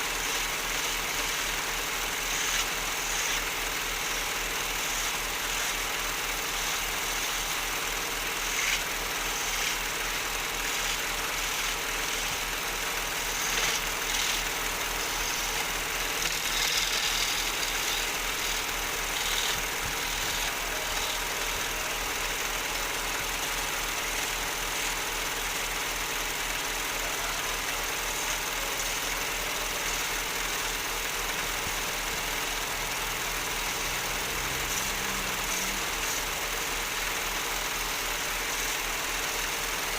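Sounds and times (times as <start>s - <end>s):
lathe tool scraping: 0.0s - 39.9s
wood lathe motor hum: 0.0s - 39.9s.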